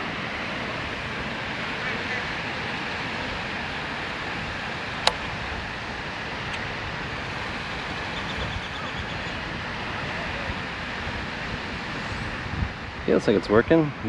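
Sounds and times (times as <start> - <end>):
distant traffic: 0.0 - 14.0
wind: 0.0 - 14.0.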